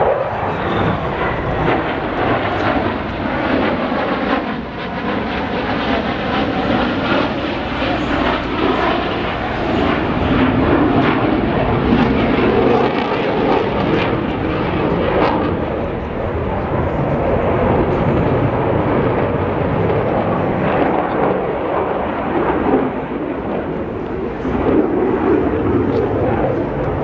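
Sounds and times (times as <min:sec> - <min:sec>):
jet engine roar: 0:00.0 - 0:27.0.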